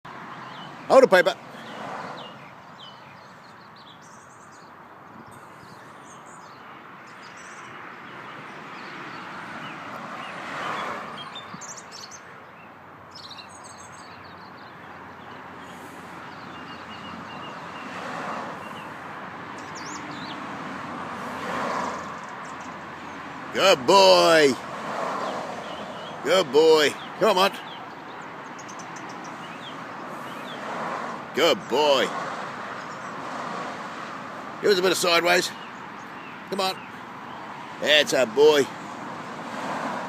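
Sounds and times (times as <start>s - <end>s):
birds chirping: 0.0s - 40.0s
traffic passing: 0.0s - 40.0s.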